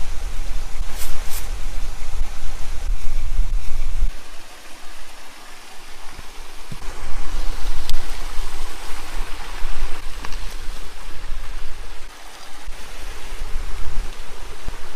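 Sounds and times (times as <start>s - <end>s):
creek water over rocks: 0.0s - 14.9s.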